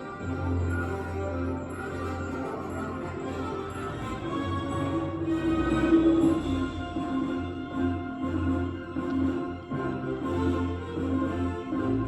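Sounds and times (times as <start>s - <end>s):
orchestral music with bowed strings: 0.0s - 12.0s.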